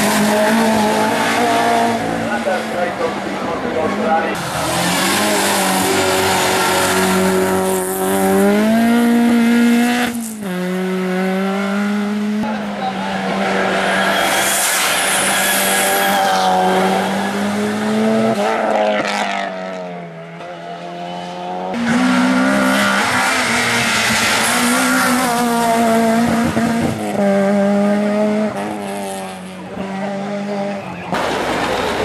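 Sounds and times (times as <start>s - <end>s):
race car engine revving: 0.0s - 32.0s.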